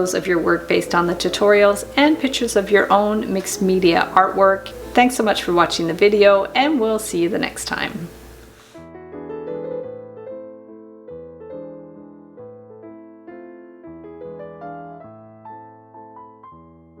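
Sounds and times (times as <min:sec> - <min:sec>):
gentle electric piano music: 0:00.0 - 0:17.0.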